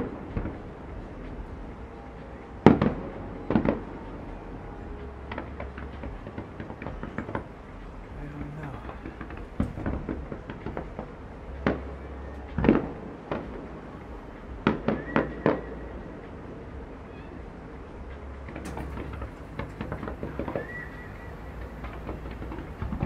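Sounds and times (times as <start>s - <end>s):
fireworks bursting: 0.0s - 16.6s, 18.4s - 23.0s
fireworks crackling: 0.0s - 16.6s, 18.2s - 23.0s
low rumble: 0.0s - 23.0s.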